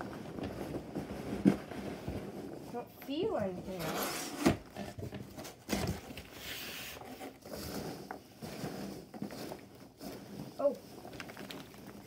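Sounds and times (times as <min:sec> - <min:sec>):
hands rustling packing peanuts: 0:00.0 - 0:12.0.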